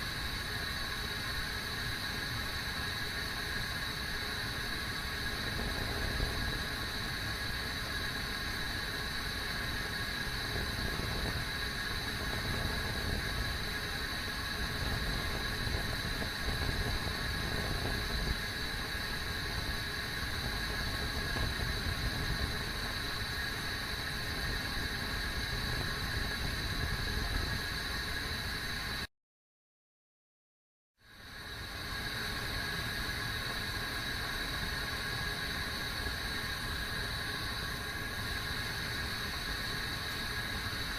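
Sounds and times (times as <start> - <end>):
kettle boiling: 0.0 - 29.0, 31.2 - 40.9.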